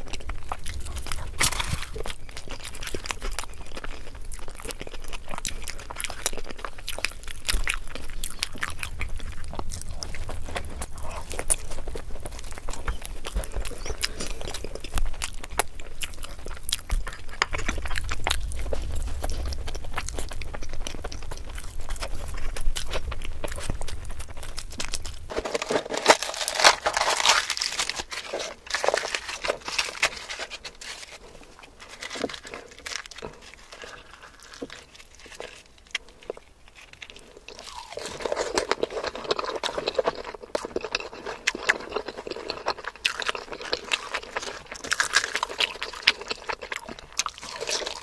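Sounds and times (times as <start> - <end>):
wet chewing and lip smacks: 0.0 - 25.4, 27.4 - 48.0
low background hum: 0.0 - 48.0.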